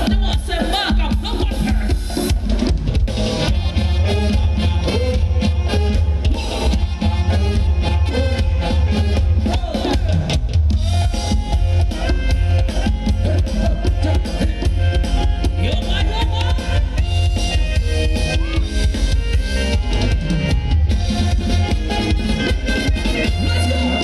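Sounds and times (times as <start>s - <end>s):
live band dance music: 0.0s - 24.0s.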